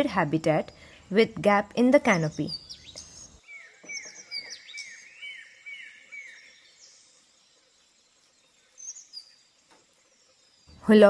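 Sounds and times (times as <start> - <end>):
faint high bird chirps: 2.1 - 11.0.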